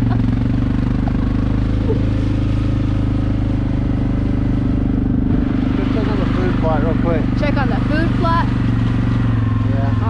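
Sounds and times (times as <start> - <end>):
atv engine droning: 0.0 - 10.0.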